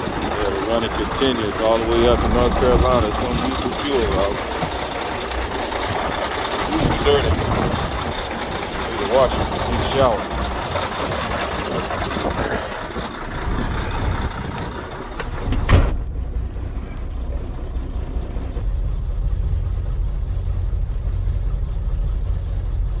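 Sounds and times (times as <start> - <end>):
road noise hiss: 0.0 - 18.6
truck diesel engine rumble: 0.0 - 23.0.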